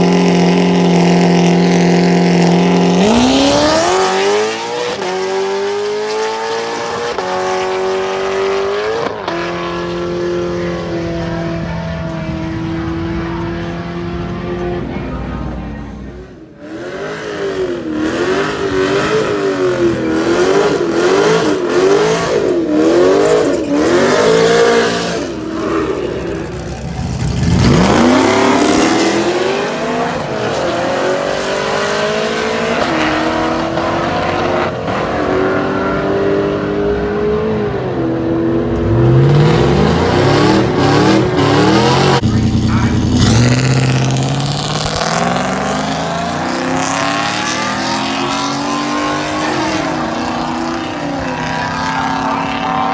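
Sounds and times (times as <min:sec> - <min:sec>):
truck engines revving: 0:00.0 - 0:52.9.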